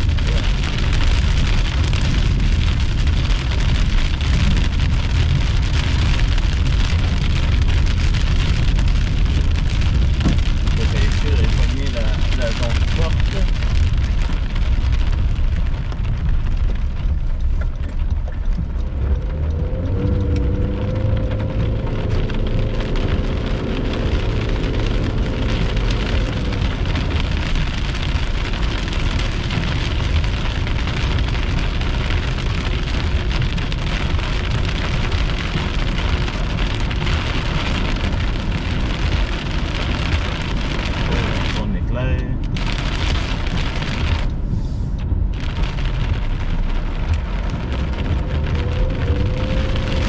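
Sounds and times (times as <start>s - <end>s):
heavy rain: 0.0s - 50.0s.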